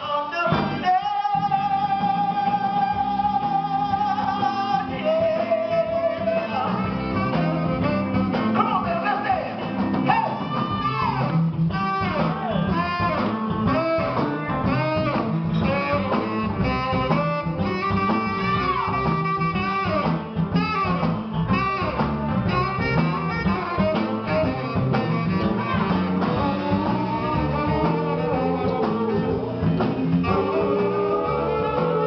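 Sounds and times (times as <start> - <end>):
live soul band playing: 0.0 - 32.0.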